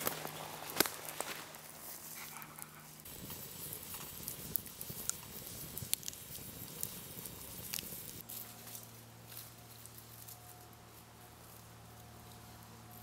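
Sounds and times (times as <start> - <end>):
campfire crackling and popping: 0.0 - 13.0
faint steady hiss: 0.0 - 13.0.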